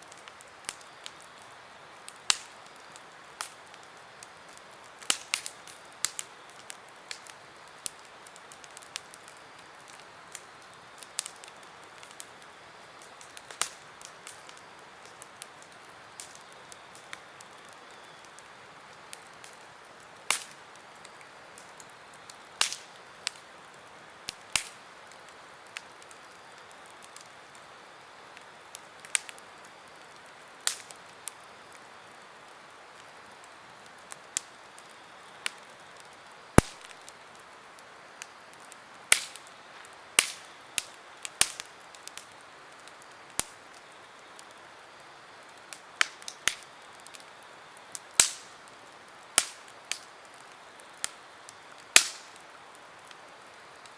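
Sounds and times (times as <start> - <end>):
campfire crackling and popping: 0.0 - 53.9
faint steady hiss: 0.0 - 53.9.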